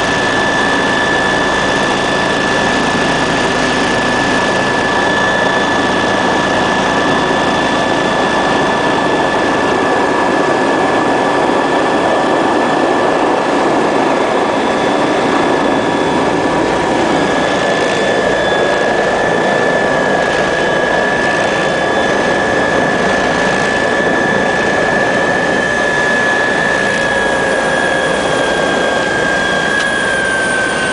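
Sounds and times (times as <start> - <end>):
helicopter turbine whine: 0.0 - 30.9.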